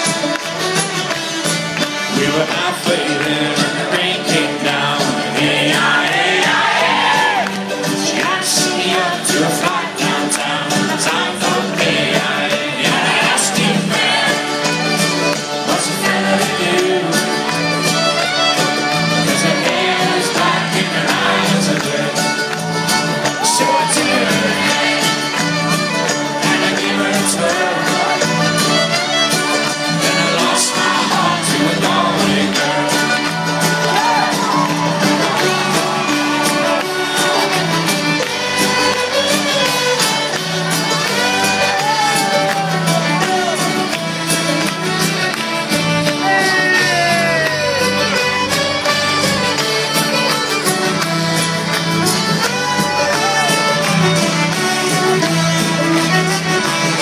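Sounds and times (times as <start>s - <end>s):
crowd voices: 0.0s - 57.0s
live folk-rock band: 0.0s - 57.0s.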